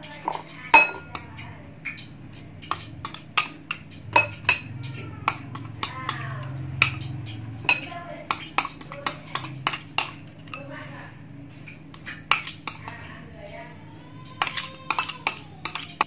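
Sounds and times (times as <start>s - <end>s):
low steady hum: 0.0s - 16.0s
metal spoon clinking on bowls: 0.2s - 10.8s, 11.8s - 13.1s, 14.3s - 16.0s.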